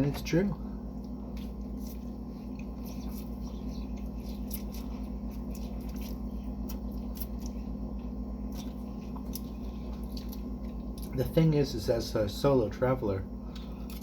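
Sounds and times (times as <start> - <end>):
person eating with hands: 0.0 - 11.4, 13.4 - 14.0
steady low hum: 0.0 - 14.0.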